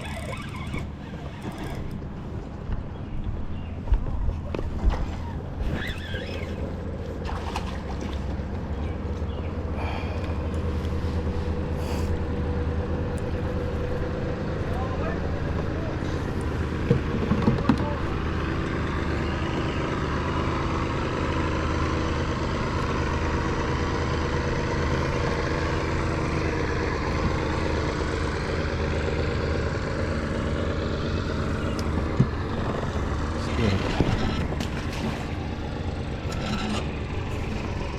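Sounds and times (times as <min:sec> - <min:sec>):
engine humming: 0:00.0 - 0:37.9.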